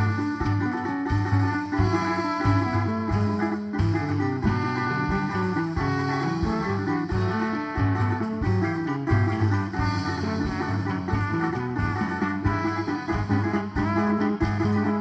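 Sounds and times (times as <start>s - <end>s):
low drum beat: 0.0s - 15.0s
plucked guitar melody: 0.0s - 15.0s.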